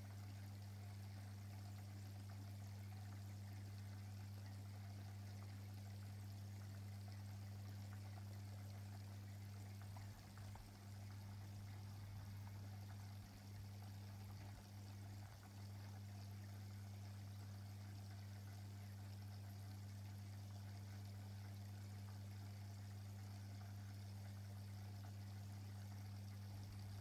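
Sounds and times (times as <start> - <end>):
aquarium pump hum: 0.0 - 27.0
faint trickling water: 0.0 - 27.0.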